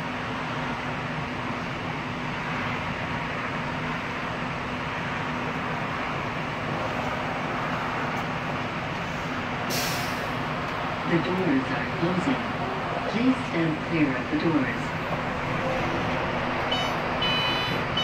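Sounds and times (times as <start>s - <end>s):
train car interior noise: 0.0s - 18.0s.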